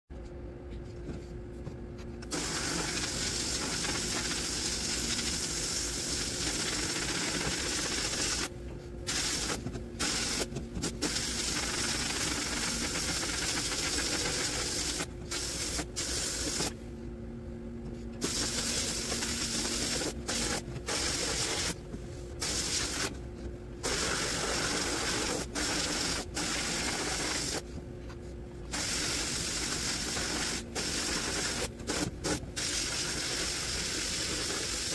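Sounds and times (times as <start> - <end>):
low steady hum: 0.1 - 32.7
sandblaster hiss of air and grit: 2.3 - 8.5, 9.1 - 16.7, 18.2 - 21.8, 22.4 - 23.1, 23.8 - 27.6, 28.7 - 34.9.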